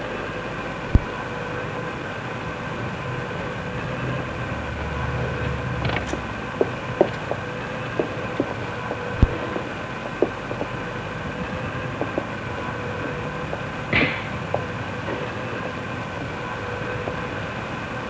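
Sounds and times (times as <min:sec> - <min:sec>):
conveyor belt humming: 0:00.0 - 0:18.0.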